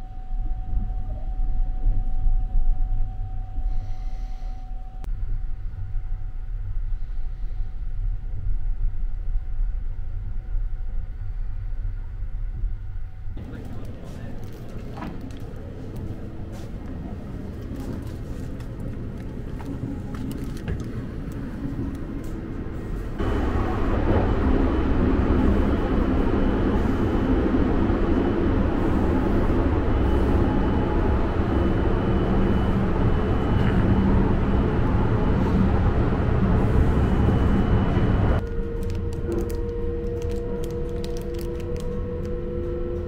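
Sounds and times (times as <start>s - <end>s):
train rumble from inside carriage: 0.0s - 43.0s.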